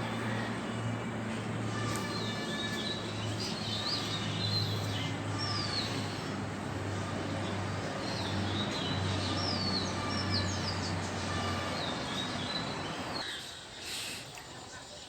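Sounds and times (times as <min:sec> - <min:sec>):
noisy background: 0:00.0 - 0:13.8
birds chirping: 0:00.0 - 0:15.0.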